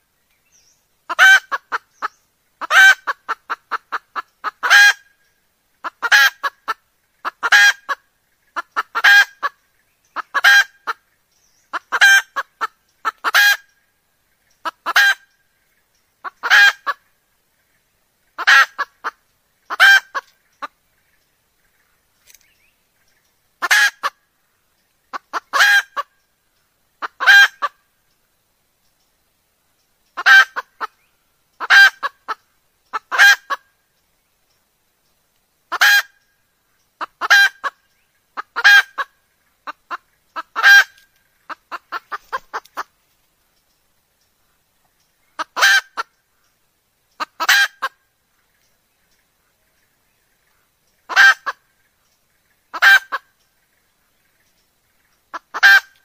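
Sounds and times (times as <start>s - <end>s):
hen junglefowl calling: 0.0s - 28.0s, 30.0s - 33.8s, 35.7s - 43.1s, 44.4s - 56.0s.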